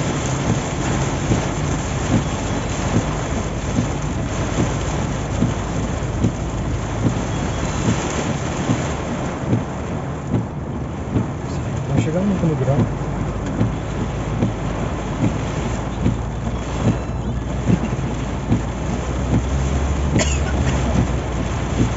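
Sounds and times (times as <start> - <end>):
heavy rain on a car: 0.0 - 21.9.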